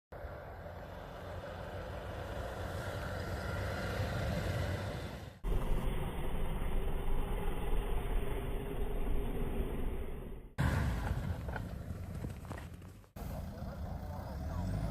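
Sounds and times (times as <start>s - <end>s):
vehicle engine running: 0.1s - 14.9s.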